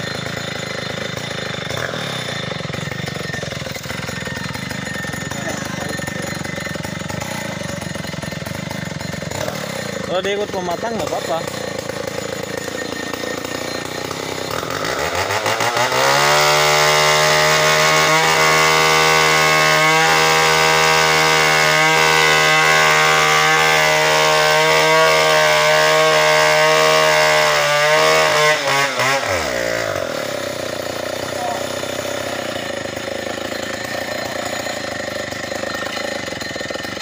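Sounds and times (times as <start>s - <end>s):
chainsaw sawing into wood: 0.0s - 37.0s.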